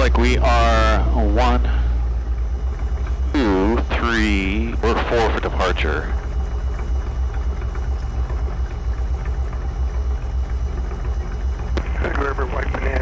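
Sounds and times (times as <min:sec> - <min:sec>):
plane piston engine idling: 0:00.0 - 0:13.0.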